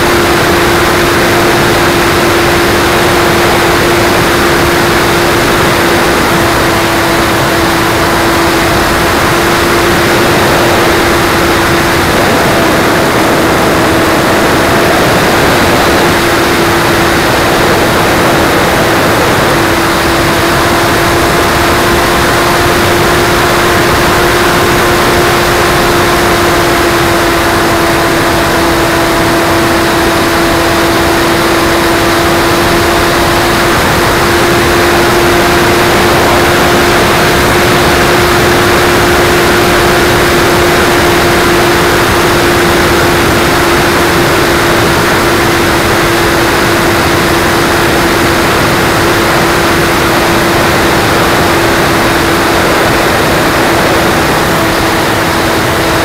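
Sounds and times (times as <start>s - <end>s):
electric motor and propeller whine: 0.0s - 56.0s
heavy wind rush: 0.0s - 56.0s.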